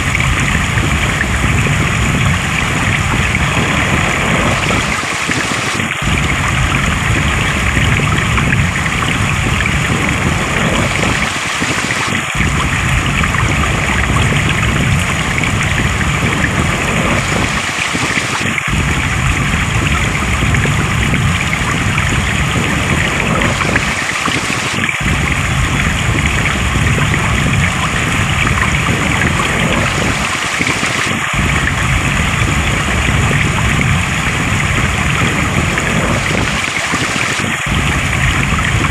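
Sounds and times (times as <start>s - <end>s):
flowing stream water: 0.0s - 38.9s.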